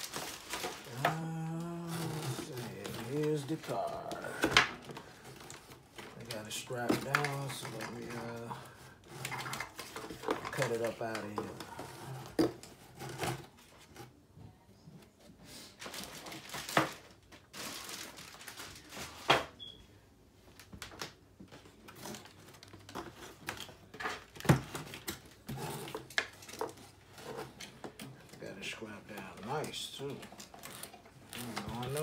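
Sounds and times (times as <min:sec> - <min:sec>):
packaging rustling: 0:00.0 - 0:13.9, 0:15.7 - 0:19.3, 0:20.5 - 0:32.0.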